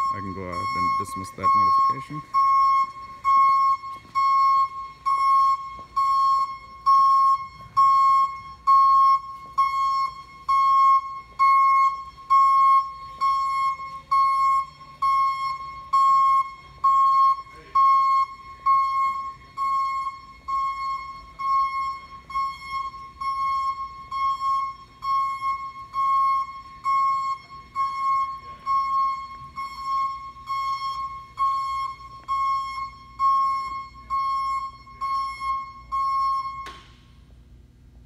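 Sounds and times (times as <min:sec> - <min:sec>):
vehicle warning beeps: 0:00.0 - 0:37.2.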